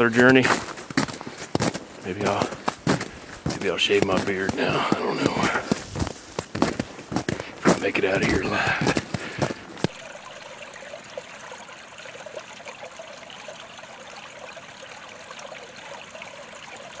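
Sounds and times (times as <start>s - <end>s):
small stream trickling: 0.0s - 17.0s.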